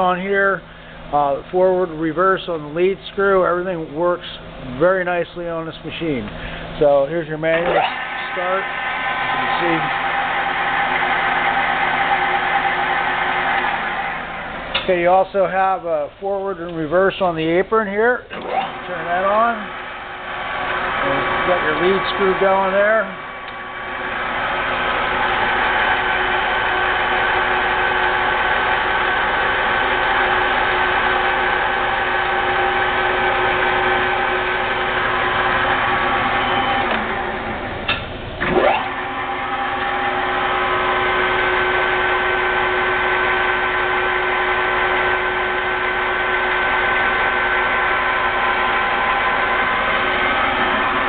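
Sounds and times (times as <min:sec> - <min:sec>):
lathe gears whining: 0:06.6 - 0:15.0, 0:18.3 - 0:51.0.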